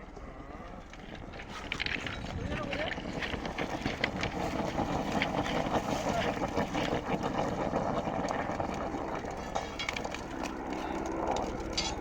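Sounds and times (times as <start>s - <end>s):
rail welding rushing and crackling: 0.8s - 12.0s.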